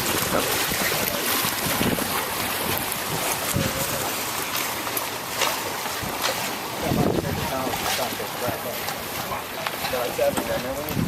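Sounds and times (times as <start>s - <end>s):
wind buffeting microphone: 0.0s - 4.6s, 5.9s - 11.0s
water washing against boat hull: 0.0s - 11.0s.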